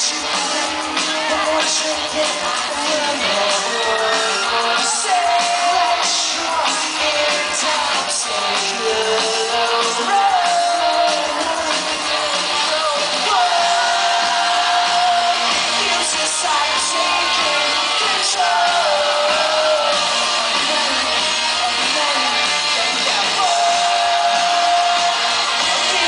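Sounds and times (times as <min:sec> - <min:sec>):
live rock band playing: 0:00.0 - 0:26.0
singer holding long notes: 0:00.0 - 0:26.0.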